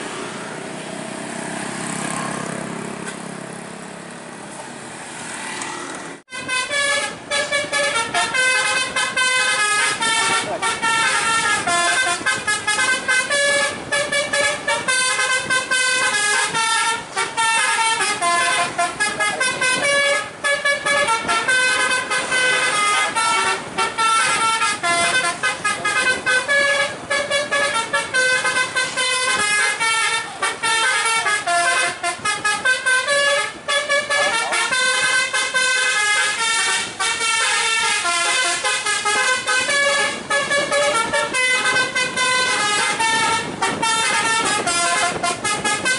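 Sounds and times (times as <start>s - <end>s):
musical bus horn melody: 6.3s - 45.9s.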